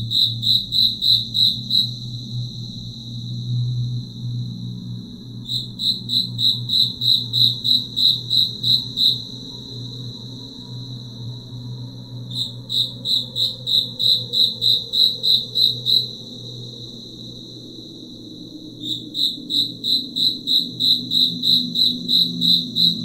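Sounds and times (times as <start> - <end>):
insect chirping trill: 0.0 - 23.0.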